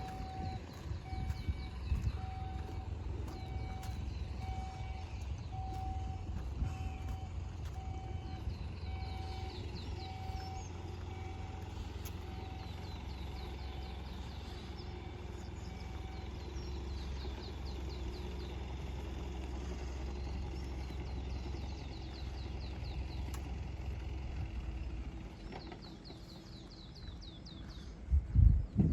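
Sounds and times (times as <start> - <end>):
traffic rumble: 0.0 - 28.9.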